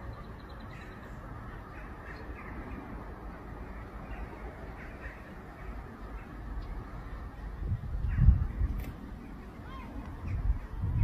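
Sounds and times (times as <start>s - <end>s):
birds calling: 0.0s - 11.0s
steady low rumble: 0.0s - 11.0s.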